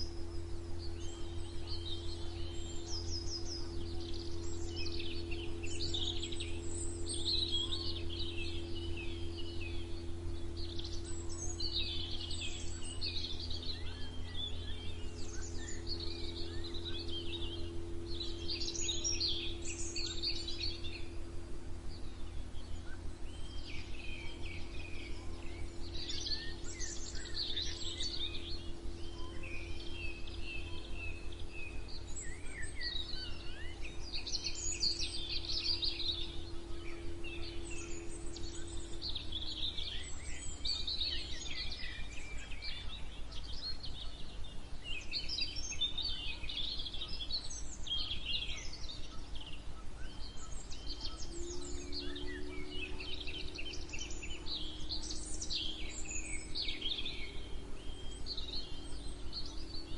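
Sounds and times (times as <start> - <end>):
birds singing and chirping: 0.0 - 59.9
low background rumble: 0.0 - 59.9
low steady hum: 0.0 - 59.9.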